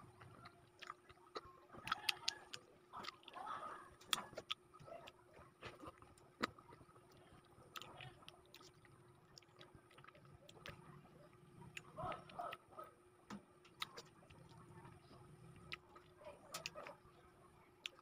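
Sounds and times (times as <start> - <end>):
person chewing fruit: 0.0 - 12.7, 13.7 - 17.1, 17.8 - 18.0.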